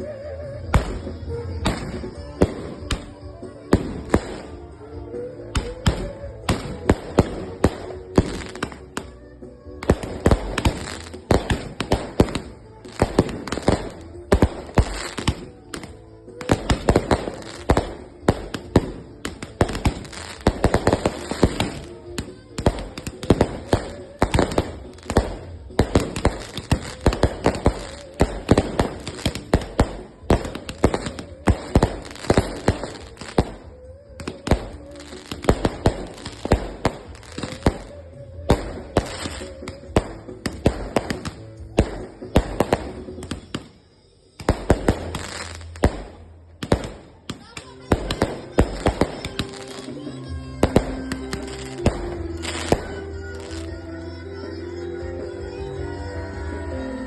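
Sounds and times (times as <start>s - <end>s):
fireworks bangs and crackles: 0.0s - 54.1s
music playing: 0.0s - 57.0s.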